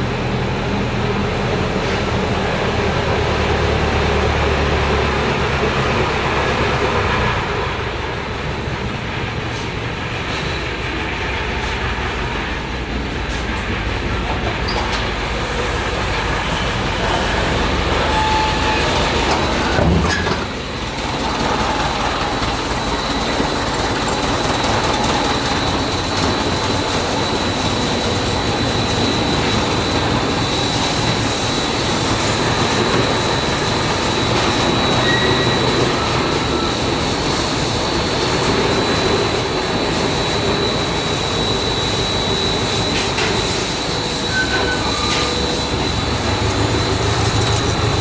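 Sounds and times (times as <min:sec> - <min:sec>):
heavy industrial machinery rumbling: 0:00.0 - 0:48.0.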